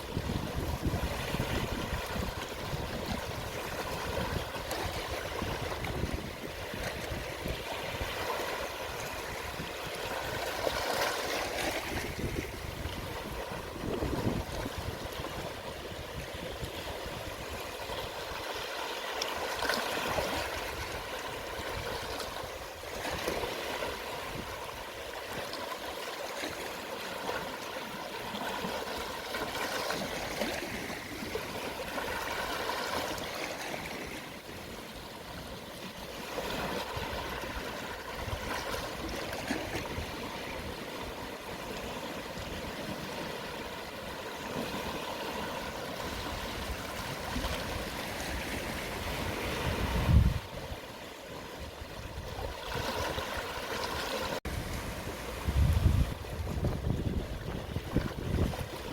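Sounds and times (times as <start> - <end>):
gentle sea waves washing ashore: 0.0 - 58.9.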